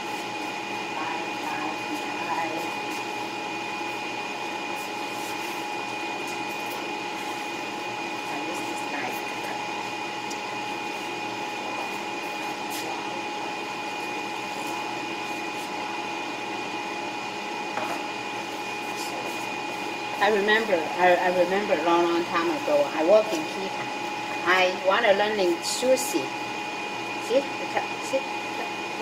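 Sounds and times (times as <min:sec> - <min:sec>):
appliance fan whirring hum: 0:00.0 - 0:29.0.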